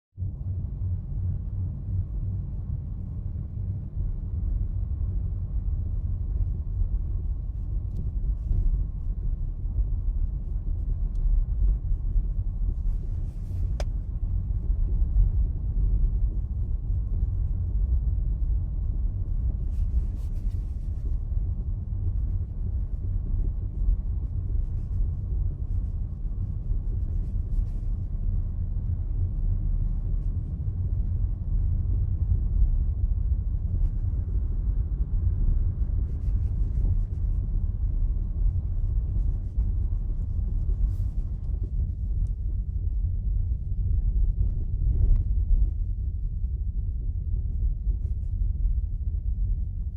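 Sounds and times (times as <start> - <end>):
low road rumble: 0.2 - 49.9.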